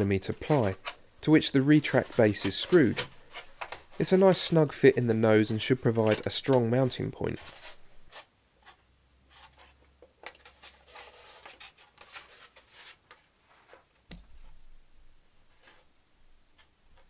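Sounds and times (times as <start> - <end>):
scratching and rubbing of small parts: 0.0 - 14.7, 15.4 - 17.0.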